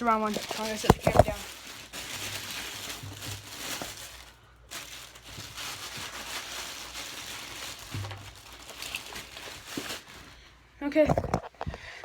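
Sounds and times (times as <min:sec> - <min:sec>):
rustling and rummaging: 0:00.0 - 0:12.0.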